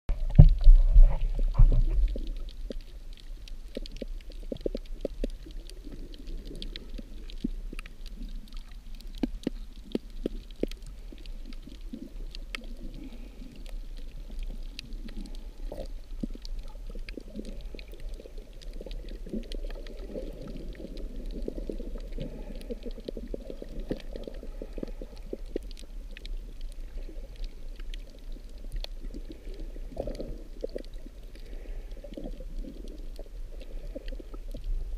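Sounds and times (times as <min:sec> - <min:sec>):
underwater clicks and crackles: 0:00.1 - 0:34.9
underwater rush of moving water: 0:00.1 - 0:34.9.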